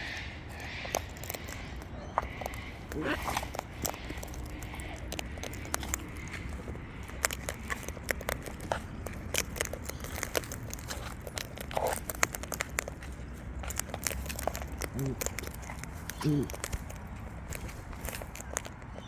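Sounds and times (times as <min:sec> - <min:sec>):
birds pecking seed: 0:00.0 - 0:19.0
steady low rumble: 0:00.0 - 0:19.0.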